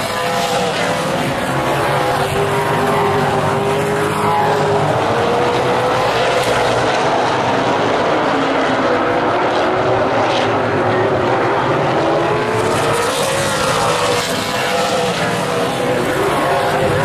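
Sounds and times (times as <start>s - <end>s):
stock car engines racing: 0.0s - 17.0s.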